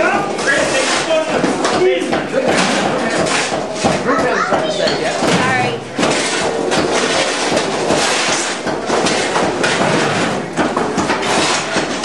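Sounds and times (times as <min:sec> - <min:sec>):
wall material breaking and crumbling: 0:00.0 - 0:12.0
knocks: 0:01.2 - 0:12.0.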